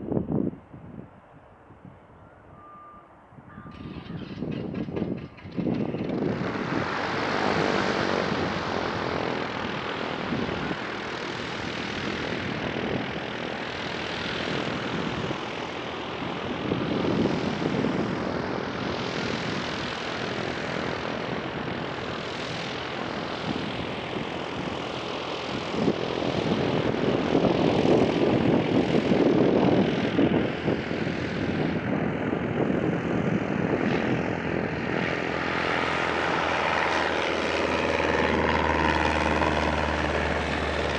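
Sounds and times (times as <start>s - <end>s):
propeller airplane engine running: 3.4s - 40.9s.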